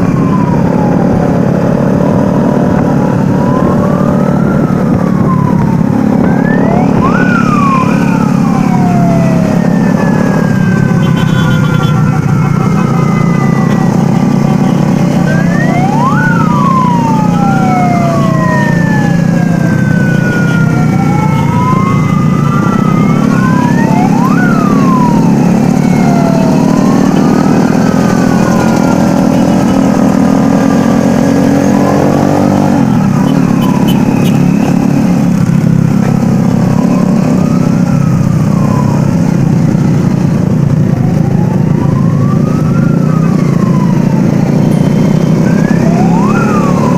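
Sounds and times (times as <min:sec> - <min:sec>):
engine rumble: 0:00.0 - 0:46.9
sirens wailing: 0:00.0 - 0:46.9.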